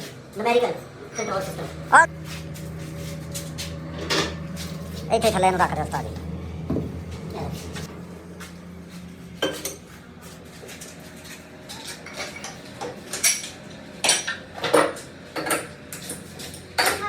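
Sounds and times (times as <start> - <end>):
low steady hum: 0.3 - 15.4.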